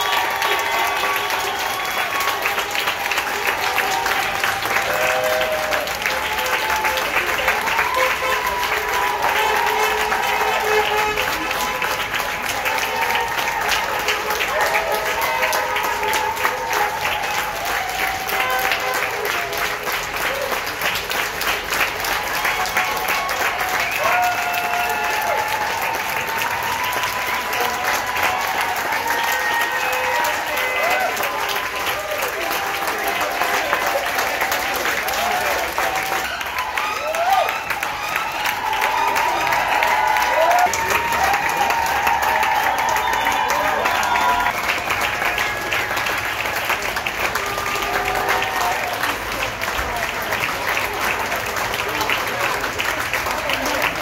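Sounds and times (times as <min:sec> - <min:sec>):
crowd clapping: 0:00.0 - 0:54.0.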